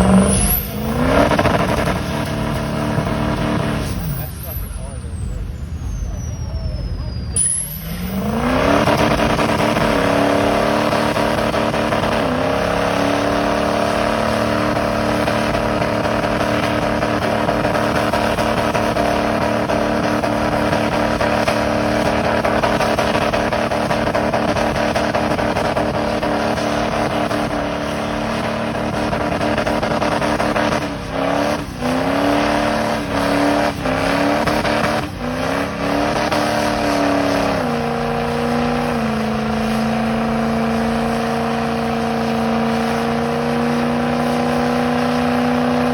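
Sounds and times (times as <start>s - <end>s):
spinning tyres rushing: 0.0s - 45.9s
truck engine revving: 0.0s - 45.9s.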